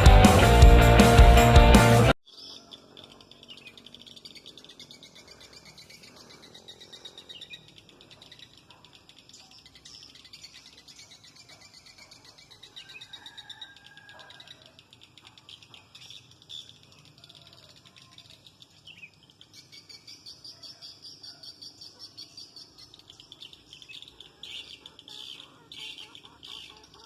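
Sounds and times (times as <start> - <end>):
swiftlets twittering chirps: 2.3 - 27.0.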